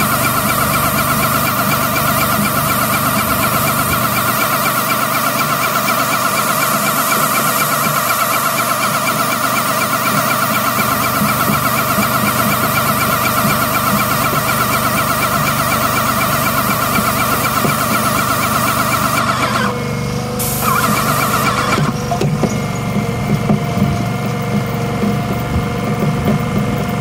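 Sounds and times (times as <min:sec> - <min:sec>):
paint sprayer hissing: 0:00.0 - 0:22.9
pump humming: 0:00.0 - 0:27.0.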